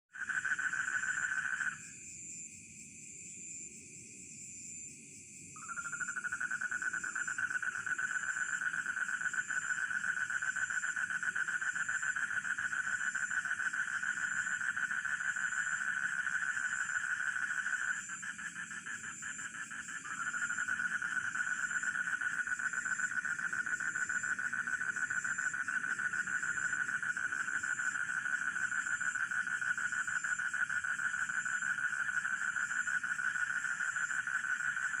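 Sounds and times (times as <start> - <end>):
frogs trilling chorus: 0.1 - 2.0, 5.6 - 35.0
high cricket chirp: 0.2 - 35.0.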